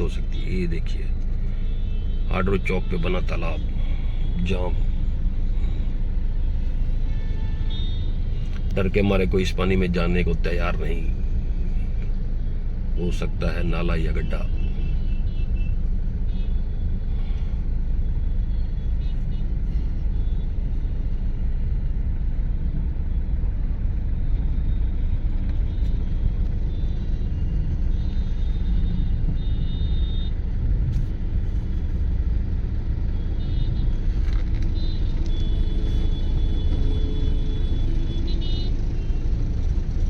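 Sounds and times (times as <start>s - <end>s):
low rumble of vehicle engines: 0.0s - 40.0s.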